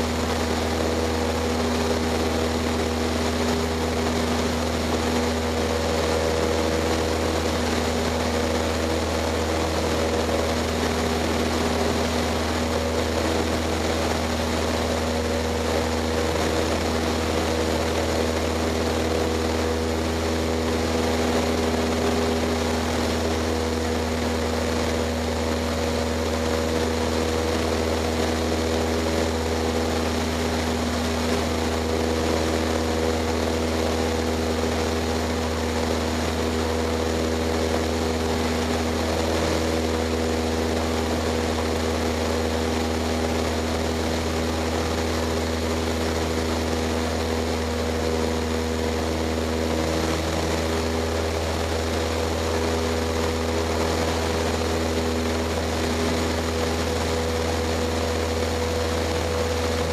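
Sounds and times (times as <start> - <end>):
light aircraft engine in flight: 0.0 - 59.9.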